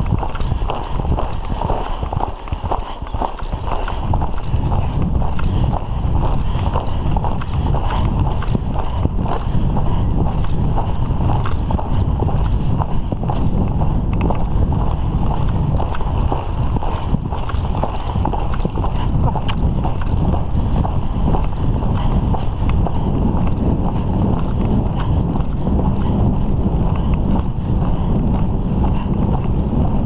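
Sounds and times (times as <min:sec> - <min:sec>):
horse hooves on sand: 0:00.0 - 0:30.0
steady low rumble: 0:00.0 - 0:30.0.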